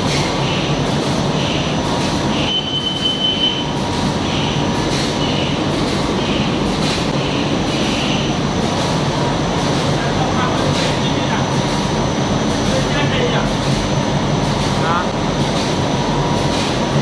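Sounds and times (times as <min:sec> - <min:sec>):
printing press running: 0:00.0 - 0:17.0.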